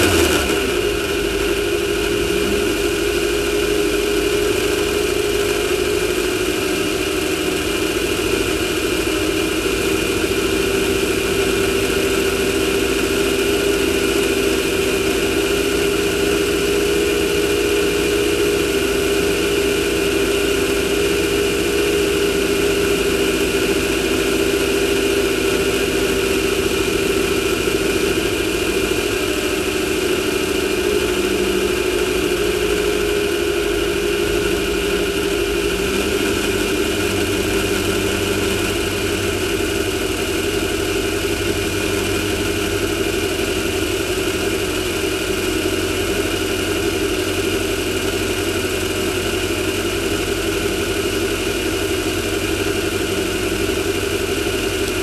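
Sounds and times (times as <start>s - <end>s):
race car engine running: 0.0s - 55.0s.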